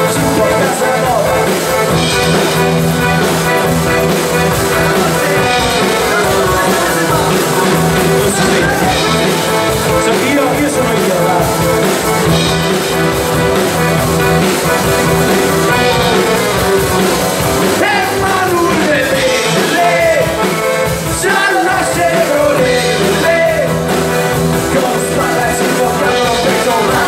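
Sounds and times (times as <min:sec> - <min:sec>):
folk rock band playing: 0:00.0 - 0:27.0
person singing: 0:00.0 - 0:27.0.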